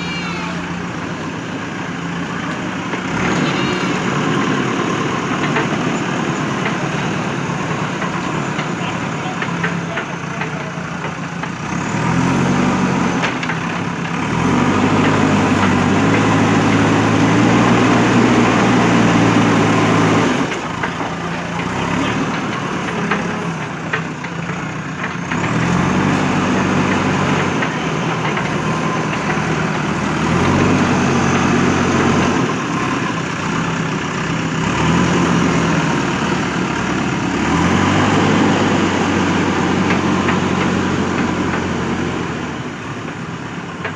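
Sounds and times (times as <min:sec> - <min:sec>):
diesel digger engine revving: 0:00.0 - 0:43.9.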